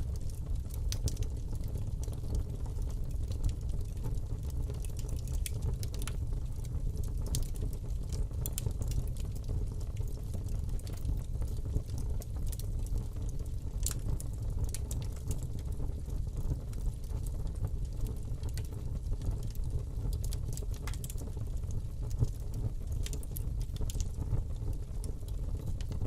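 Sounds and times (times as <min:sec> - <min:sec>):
fire crackles and pops: 0:00.0 - 0:26.0
fire rumbling in fireplace: 0:00.0 - 0:26.0.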